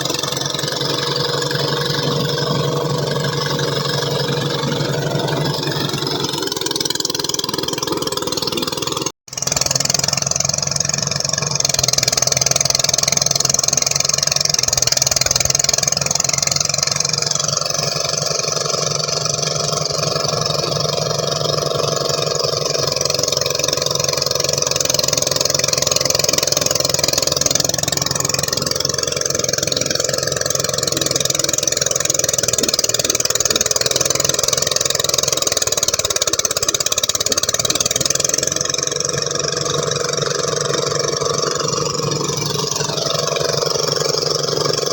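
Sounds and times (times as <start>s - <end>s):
threshing machine engine running: 0.0s - 44.9s.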